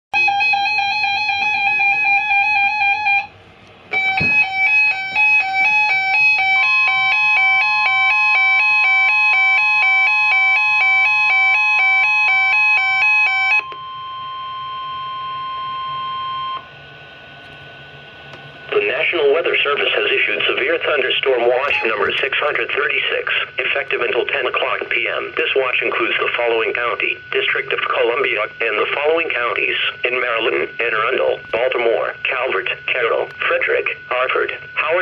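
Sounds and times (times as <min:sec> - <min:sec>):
two-tone electronic alarm beeping: 0:00.2 - 0:03.3, 0:03.9 - 0:17.0, 0:20.6 - 0:35.0
steady warning tone: 0:00.2 - 0:35.0.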